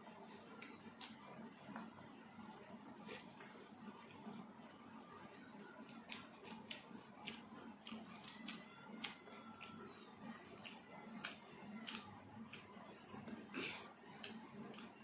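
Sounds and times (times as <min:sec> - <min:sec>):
person chewing with wet smacks: 0:00.4 - 0:02.0, 0:03.0 - 0:15.0.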